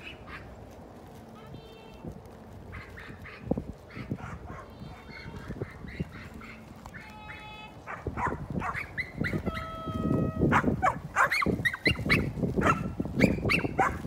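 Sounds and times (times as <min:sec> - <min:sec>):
dogs barking and yipping: 0:00.0 - 0:01.2, 0:02.6 - 0:14.0.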